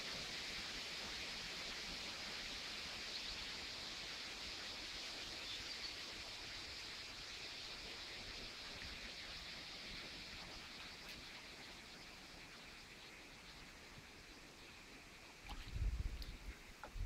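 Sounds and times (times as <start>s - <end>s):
stream running over stones: 0.0s - 17.0s.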